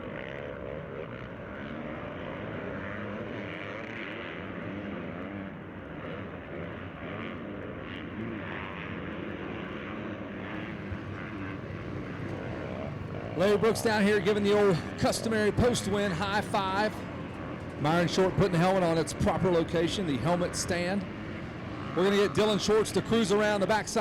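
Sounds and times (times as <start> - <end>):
background hum: 0.0 - 24.0
dirt bike engines running: 0.0 - 24.0.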